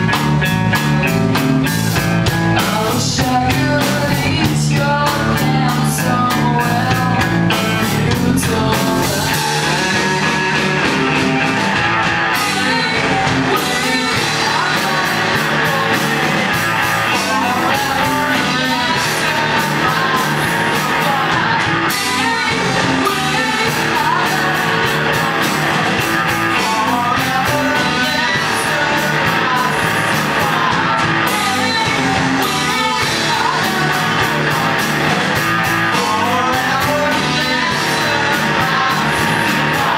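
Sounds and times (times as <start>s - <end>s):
electric guitar: 0.0s - 39.9s
person singing and shouting: 2.6s - 39.9s.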